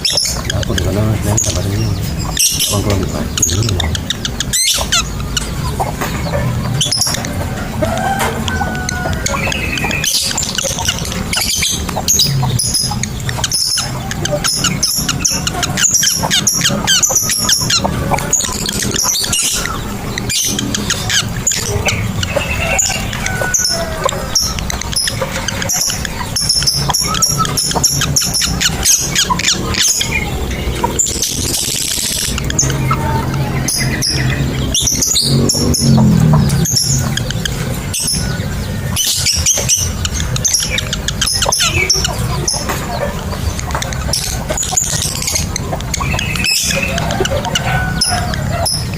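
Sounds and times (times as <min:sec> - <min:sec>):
lovebirds chirping shrilly: 0:00.0 - 0:48.9.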